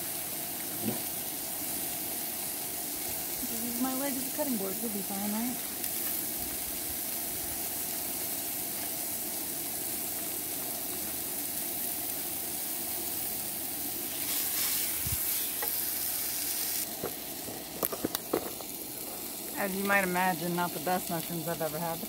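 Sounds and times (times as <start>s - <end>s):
mushrooms sizzling in frying pan: 0.0s - 22.0s.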